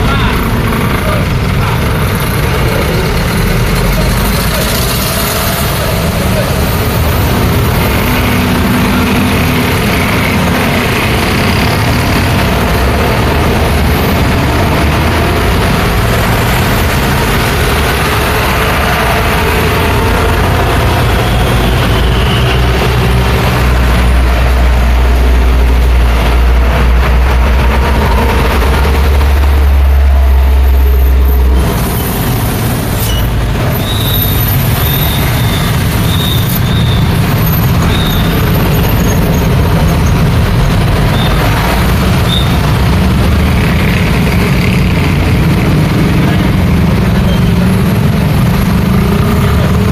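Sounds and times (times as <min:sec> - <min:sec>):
large vehicle engine drone: 0:00.0 - 0:49.9
road traffic passing: 0:00.0 - 0:49.9.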